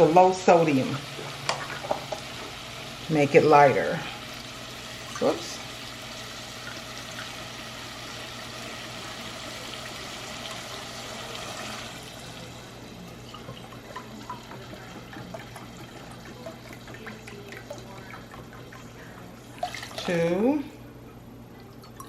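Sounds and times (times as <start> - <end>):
broth pouring into a pot: 0.0 - 20.5.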